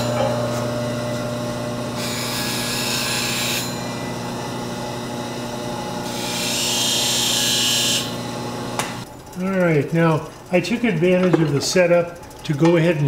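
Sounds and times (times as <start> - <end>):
grinder motor humming: 0.0 - 13.0.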